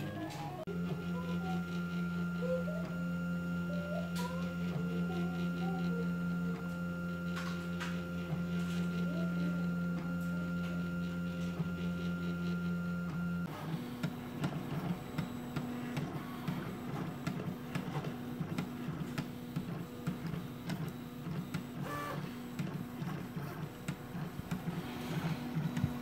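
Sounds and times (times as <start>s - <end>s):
printer stepper motors whining: 0.0s - 26.0s.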